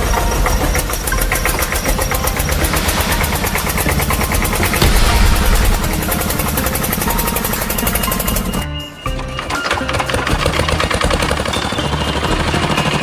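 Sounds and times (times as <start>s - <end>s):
engine rattling clatter: 0.0s - 13.0s.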